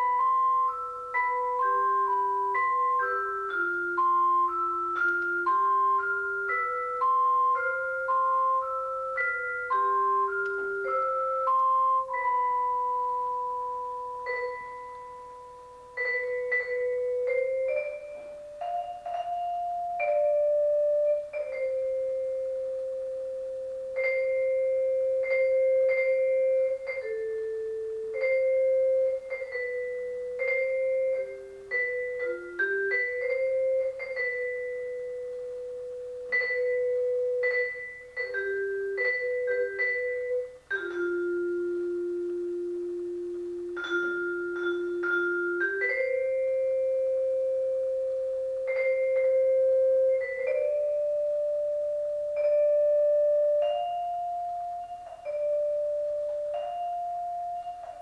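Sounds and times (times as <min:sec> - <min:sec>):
vibraphone played with mallets: 0:00.0 - 0:58.0.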